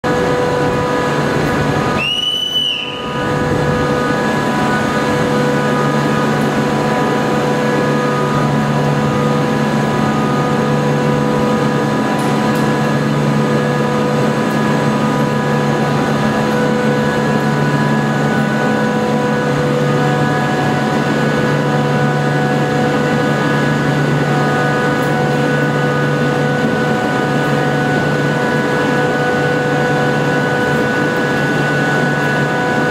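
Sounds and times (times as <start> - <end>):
steady whining tones: 0.0 - 32.9
train equipment low drone: 0.0 - 32.9.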